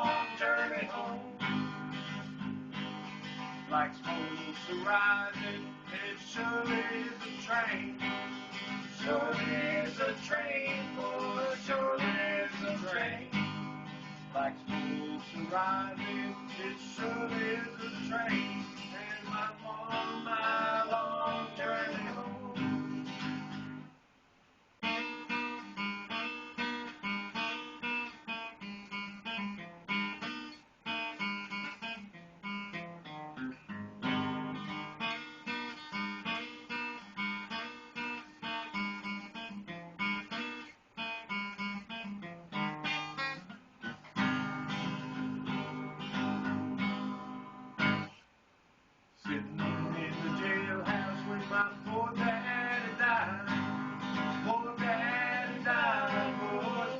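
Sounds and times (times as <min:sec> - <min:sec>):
acoustic guitar picking: 0:00.0 - 0:23.9, 0:24.8 - 0:48.2, 0:49.2 - 0:56.9.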